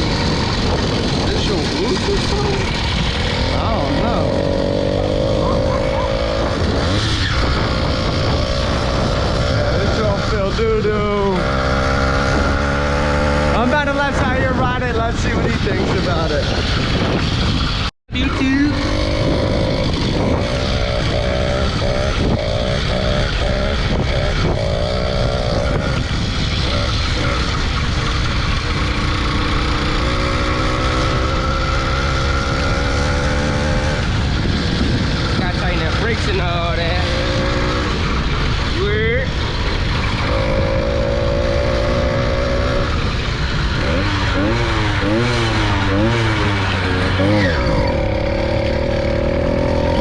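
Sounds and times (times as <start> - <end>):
motorbike engine revving: 0.0 - 50.0.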